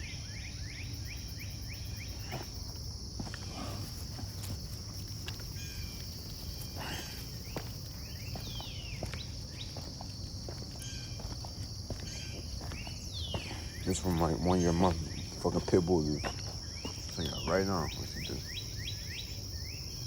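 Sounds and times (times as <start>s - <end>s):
bird chirps: 0.0s - 2.6s, 5.4s - 9.9s, 10.8s - 20.0s
high-pitched insect chorus: 0.0s - 20.0s.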